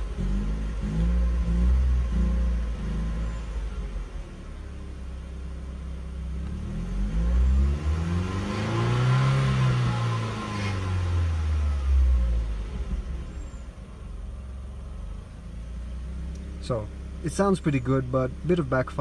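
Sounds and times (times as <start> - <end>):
car engine revving from idle: 0.0 - 19.0.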